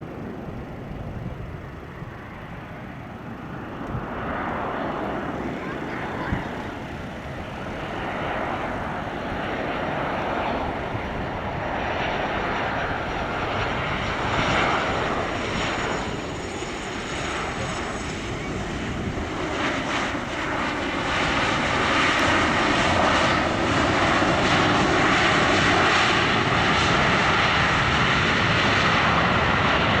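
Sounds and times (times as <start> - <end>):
jet engine rush: 0.0 - 30.0.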